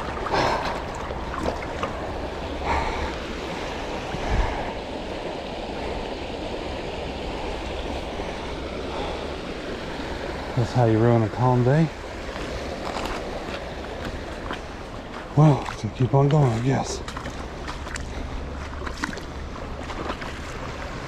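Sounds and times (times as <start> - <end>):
creek water running over rocks: 0.0 - 21.0.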